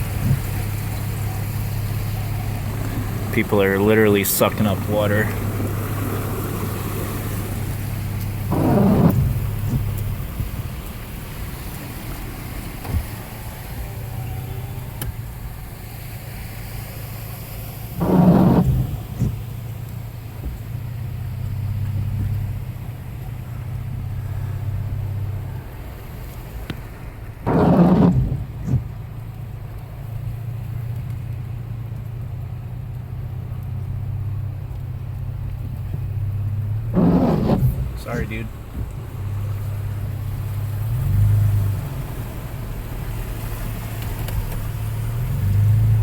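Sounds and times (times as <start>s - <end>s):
water rushing surge: 0.0s - 22.9s, 23.5s - 30.8s, 36.6s - 46.0s
car engine low drone: 0.0s - 46.0s
vehicle driving through water: 0.0s - 46.0s.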